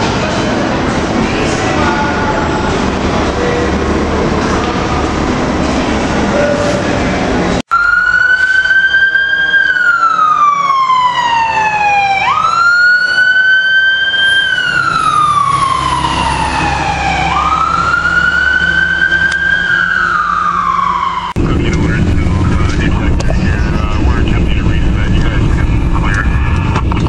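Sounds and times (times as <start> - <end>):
emergency siren wailing: 0.0 - 26.8.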